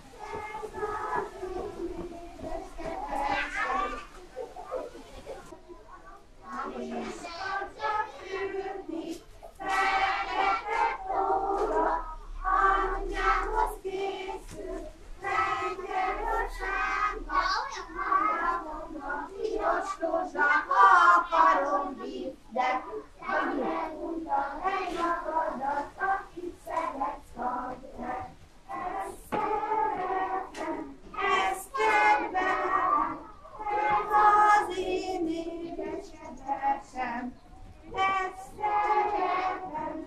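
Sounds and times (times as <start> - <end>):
young voices singing: 0.0 - 5.6, 6.2 - 40.0.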